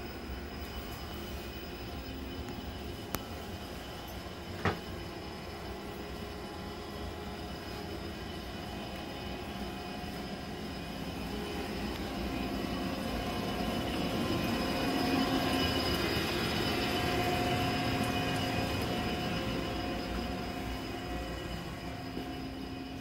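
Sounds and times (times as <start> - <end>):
machinery rushing hum: 0.0 - 23.0
steady machine tones: 0.0 - 23.0.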